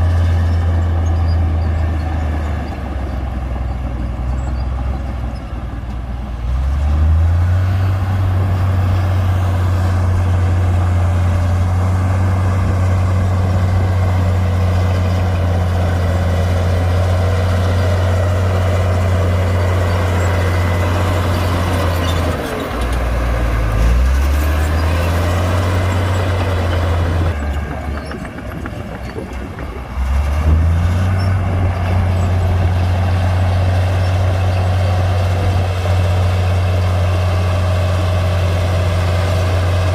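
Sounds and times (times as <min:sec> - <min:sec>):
bulldozer diesel engine revving: 0:00.0 - 0:39.9.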